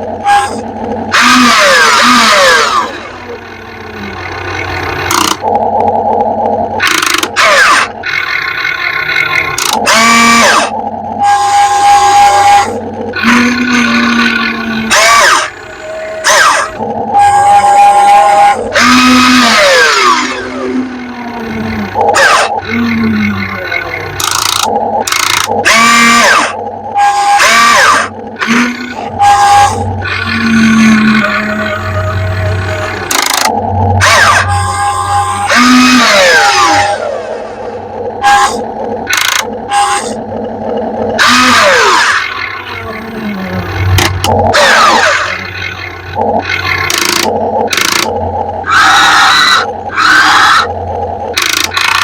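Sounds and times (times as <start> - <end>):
electric motors whining: 0.0 - 52.0.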